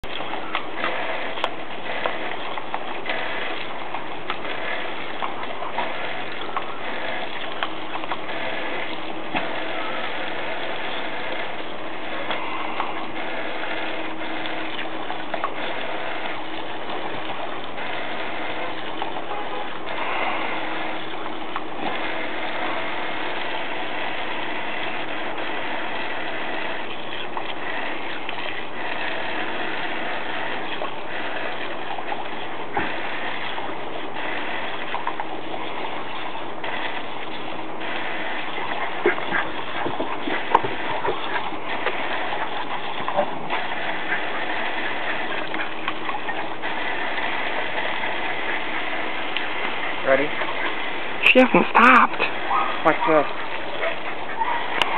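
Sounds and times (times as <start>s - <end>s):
hose water spraying: 0.0s - 54.9s.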